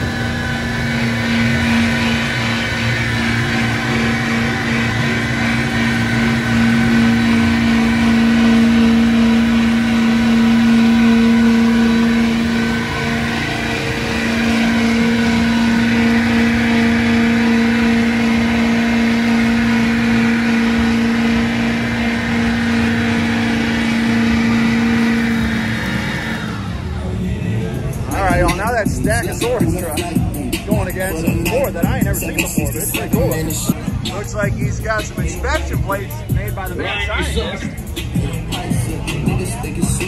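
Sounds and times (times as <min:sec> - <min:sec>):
truck engines revving high: 0:00.0 - 0:40.0.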